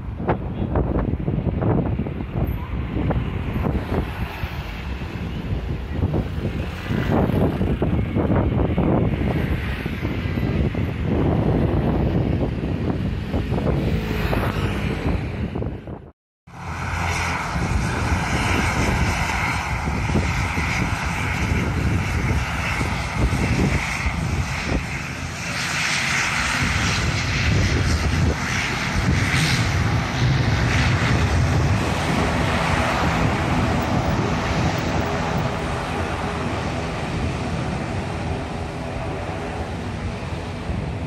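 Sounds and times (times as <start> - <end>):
jet engines passing overhead: 0.0 - 41.0.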